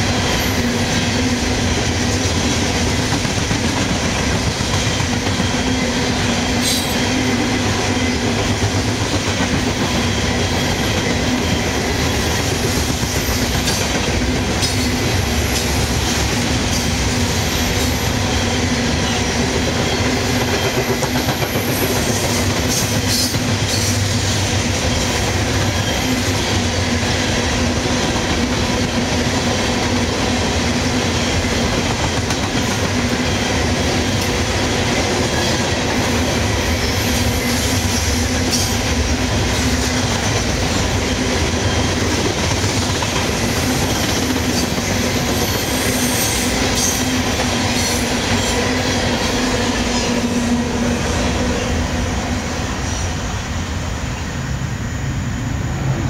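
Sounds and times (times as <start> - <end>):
steel wheels clattering on rail: 0.0 - 51.8.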